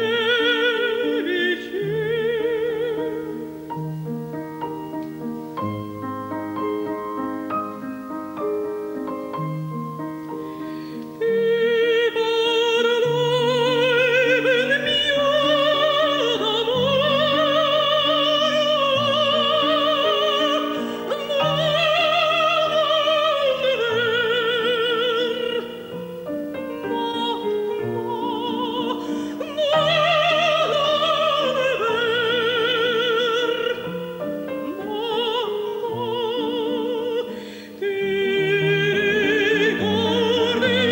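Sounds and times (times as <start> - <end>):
woman singing operatically: 0.0 - 3.7, 11.2 - 40.9
piano playing: 0.0 - 40.9.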